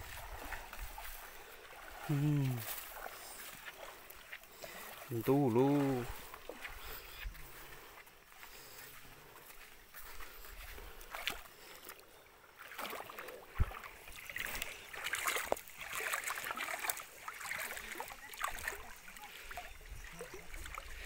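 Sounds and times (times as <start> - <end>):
stream trickling and lapping: 0.0 - 21.0.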